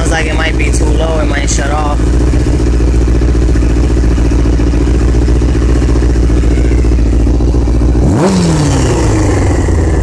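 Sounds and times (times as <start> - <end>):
motorcycle engine idling: 0.0 - 10.0
throttle blip revving engine: 0.0 - 10.0.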